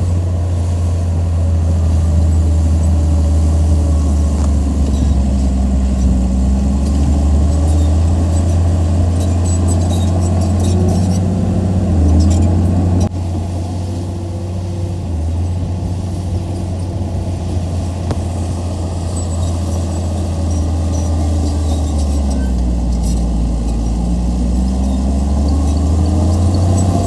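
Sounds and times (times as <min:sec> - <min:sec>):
heavy diesel engine droning: 0:00.0 - 0:27.0.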